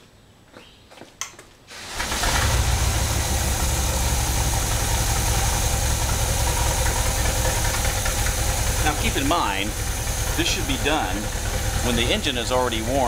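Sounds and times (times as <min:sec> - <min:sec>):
car engine starting and idling: 0:01.7 - 0:13.0.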